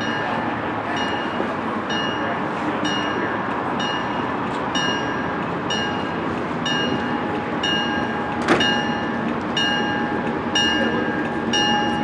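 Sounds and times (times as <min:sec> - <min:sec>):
bell ringing: 0:00.0 - 0:12.0
diesel train rumble: 0:00.0 - 0:12.0.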